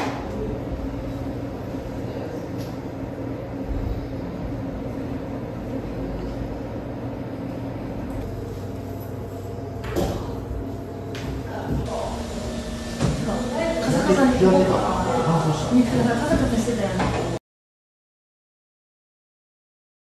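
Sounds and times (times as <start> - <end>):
low mechanical hum: 0.0 - 17.4.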